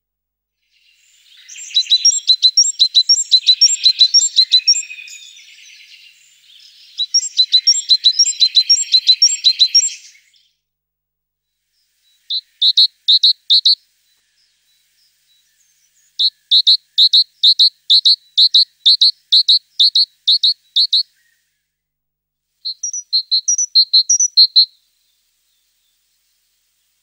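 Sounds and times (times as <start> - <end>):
small songbird chirping: 0.6 - 10.6, 11.5 - 21.8, 22.6 - 27.0.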